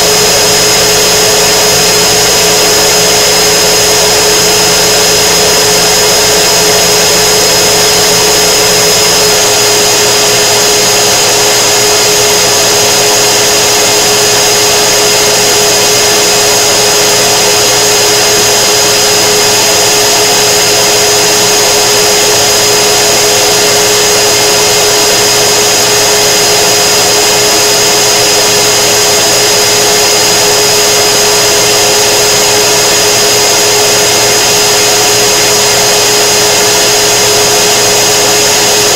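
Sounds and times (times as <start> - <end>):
laser cutter fan blowing: 0.0 - 38.9
steady whine: 0.0 - 38.9.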